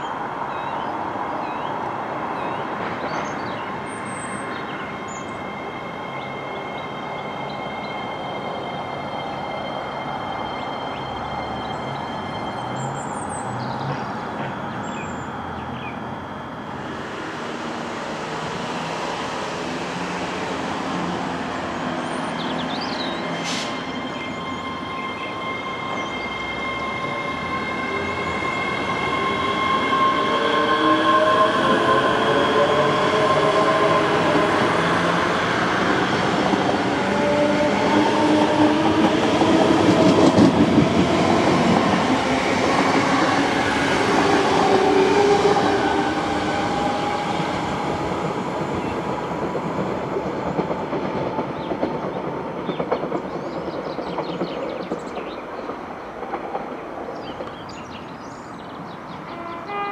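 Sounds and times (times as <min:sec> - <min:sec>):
train wheels on rails: 0:02.7 - 0:59.2.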